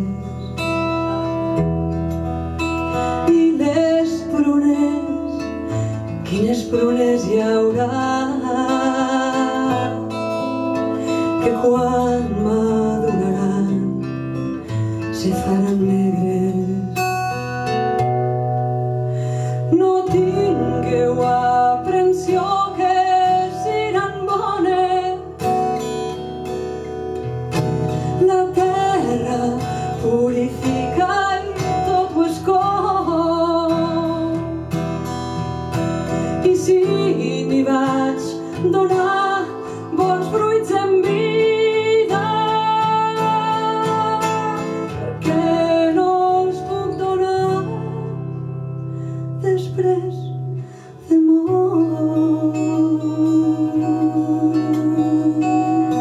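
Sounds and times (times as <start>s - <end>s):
woman singing: 0.0s - 0.7s, 2.9s - 18.2s, 19.4s - 26.1s, 27.9s - 35.1s, 36.0s - 56.0s
acoustic guitar: 0.0s - 56.0s.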